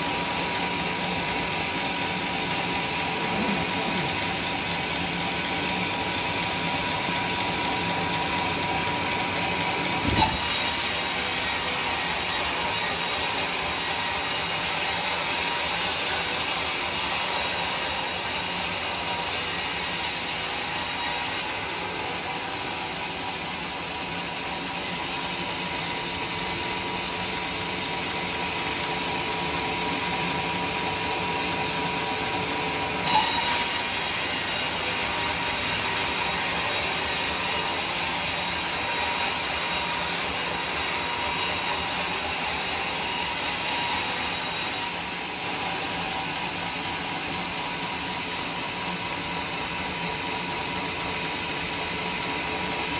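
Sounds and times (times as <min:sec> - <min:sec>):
band sawmill sawing log: 0:00.0 - 0:52.9.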